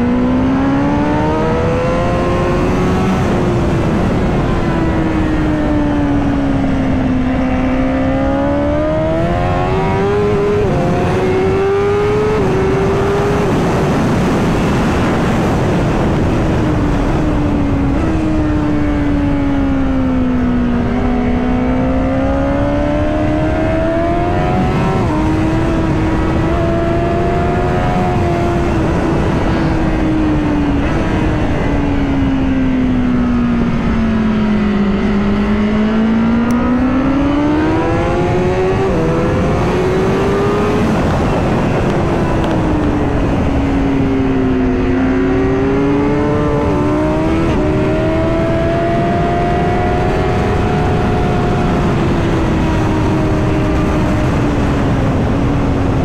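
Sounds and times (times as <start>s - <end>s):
motorcycle engine revving: 0.0s - 56.0s
wind rush: 0.0s - 56.0s.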